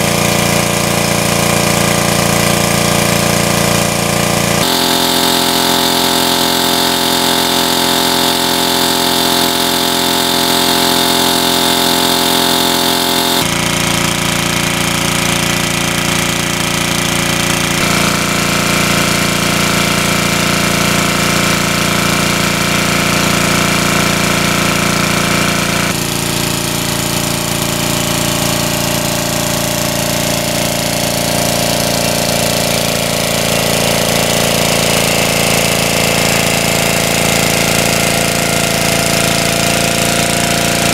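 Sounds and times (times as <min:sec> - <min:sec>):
small water pump engine running: 0:00.0 - 0:40.9.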